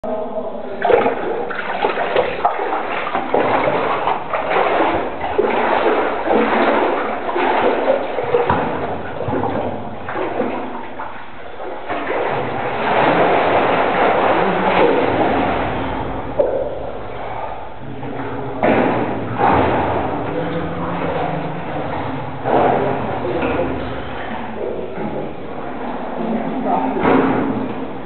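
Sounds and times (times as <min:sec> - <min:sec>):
water splashing from swimming: 0:00.7 - 0:28.0.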